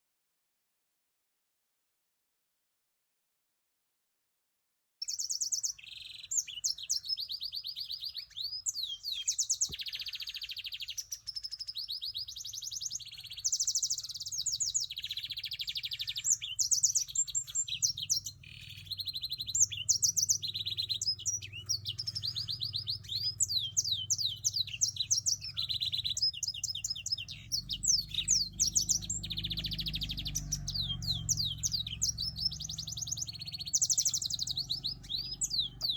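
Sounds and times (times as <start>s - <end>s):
canary singing trills: 5.0s - 35.9s.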